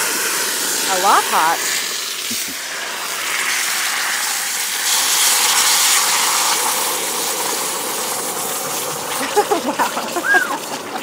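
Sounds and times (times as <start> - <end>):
broth boiling and hissing in pan: 0.0 - 11.0.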